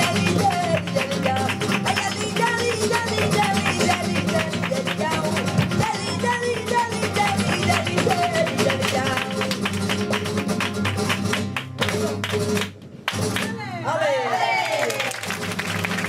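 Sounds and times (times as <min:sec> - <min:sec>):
flamenco guitar: 0:00.0 - 0:16.0.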